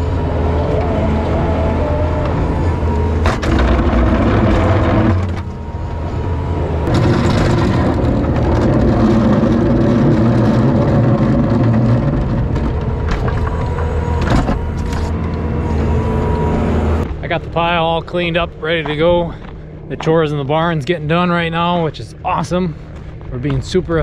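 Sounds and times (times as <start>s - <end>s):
loader engine running: 0.0s - 24.0s.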